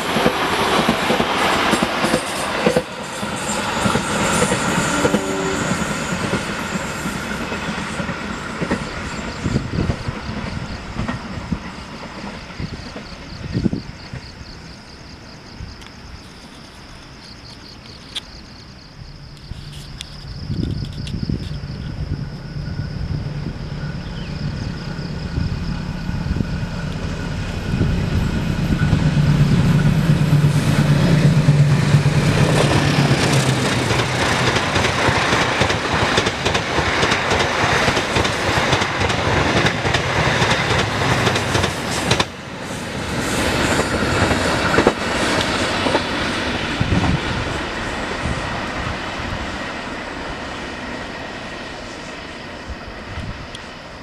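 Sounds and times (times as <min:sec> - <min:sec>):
crickets chirping: 0:00.0 - 0:54.0
diesel locomotive engine drone: 0:00.0 - 0:54.0
train cars rumbling over rails: 0:00.0 - 0:54.0.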